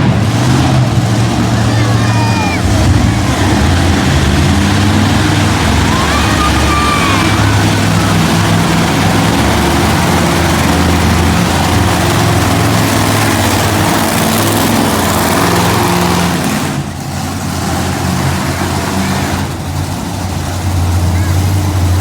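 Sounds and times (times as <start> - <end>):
monster truck engine roaring: 0.0 - 22.0.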